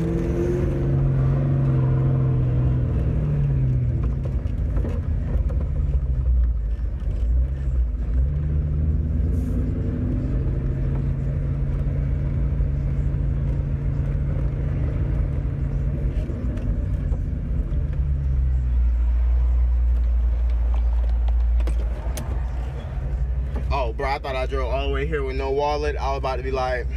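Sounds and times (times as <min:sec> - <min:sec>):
car engine drone: 0:00.0 - 0:26.9.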